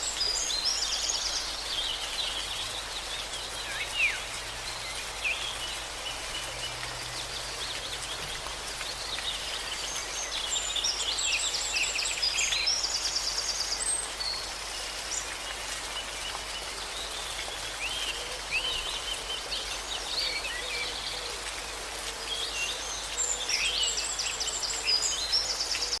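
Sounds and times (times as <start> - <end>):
falling water rushing: 0.0 - 26.0
songbirds chirping and trilling: 0.0 - 26.0.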